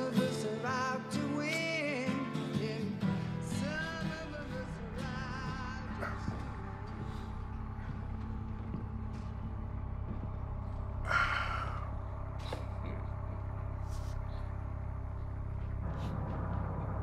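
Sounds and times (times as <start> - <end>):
low rumbling drone: 3.0 - 17.0.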